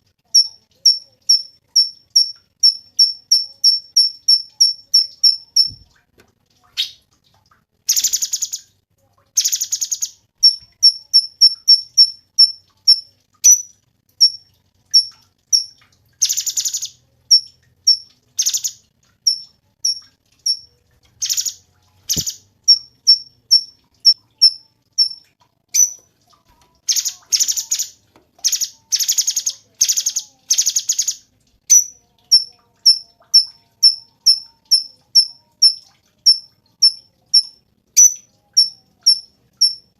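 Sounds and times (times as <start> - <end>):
bird singing with rapid trills: 0.3 - 5.9, 7.9 - 8.7, 9.4 - 25.2, 25.8 - 26.1, 26.8 - 39.9.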